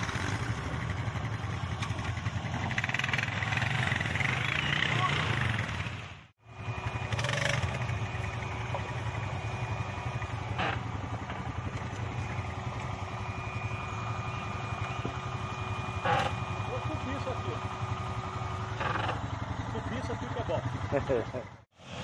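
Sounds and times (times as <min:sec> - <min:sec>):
quad bike engine running: 0:00.0 - 0:22.0.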